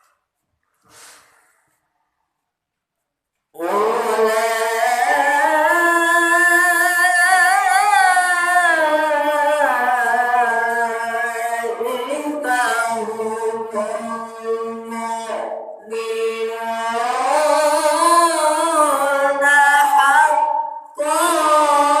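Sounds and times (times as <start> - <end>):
person chanting melodic recitation: 3.6 - 22.0.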